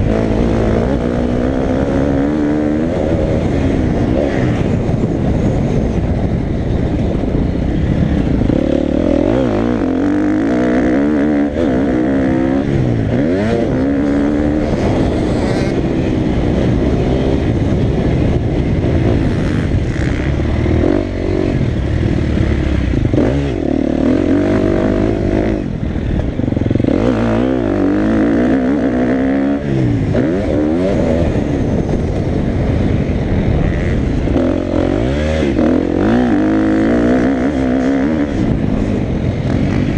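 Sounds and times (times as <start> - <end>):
motocross bike engine revving: 0.0 - 6.2, 7.3 - 39.9.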